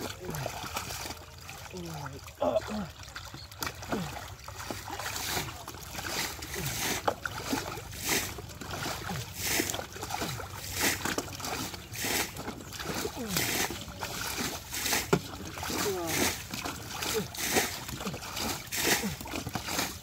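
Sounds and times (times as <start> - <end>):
muddy water sloshing and splashing: 0.0 - 20.0.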